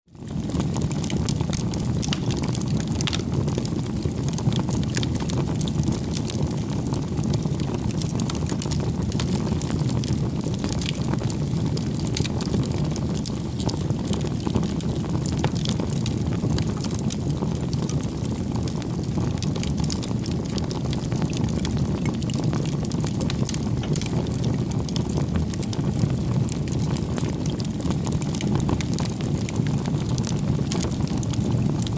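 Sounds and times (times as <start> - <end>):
bonfire flames rumbling: 0.1 - 31.9
fire crackling and popping: 0.2 - 31.9.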